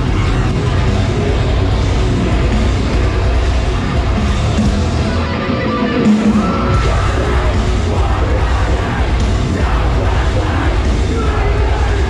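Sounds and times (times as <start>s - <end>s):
metalcore band playing live: 0.0s - 12.0s
yelled vocals: 0.0s - 12.0s.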